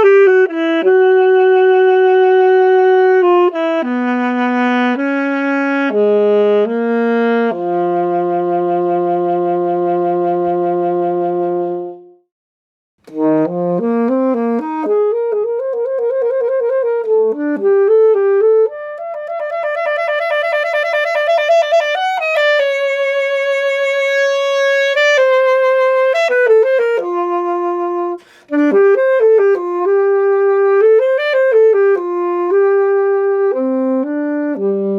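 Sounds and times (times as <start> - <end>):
saxophone melody: 0.0 - 12.3, 13.0 - 34.9.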